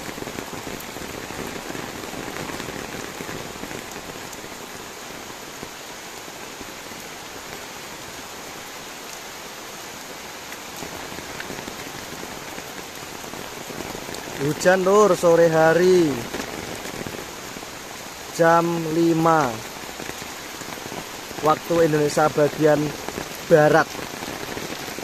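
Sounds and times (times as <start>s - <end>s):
steady rainfall: 0.0s - 25.0s.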